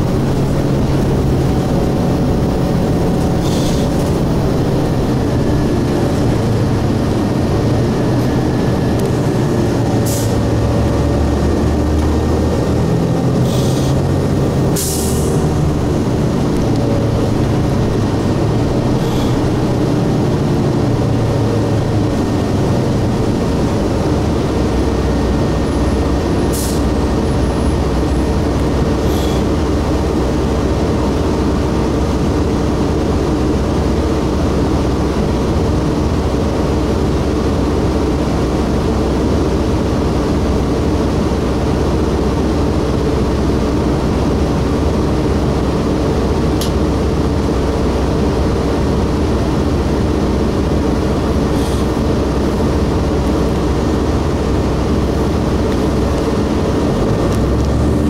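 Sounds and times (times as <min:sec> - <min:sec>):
diesel bus engine drone: 0:00.0 - 0:58.0
road noise: 0:00.0 - 0:58.0.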